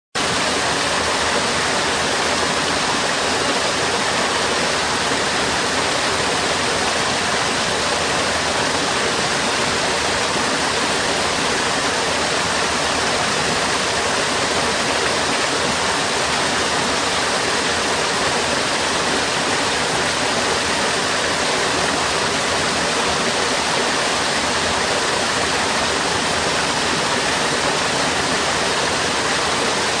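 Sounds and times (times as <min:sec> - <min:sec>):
water rushing through sewer: 0:00.2 - 0:30.0.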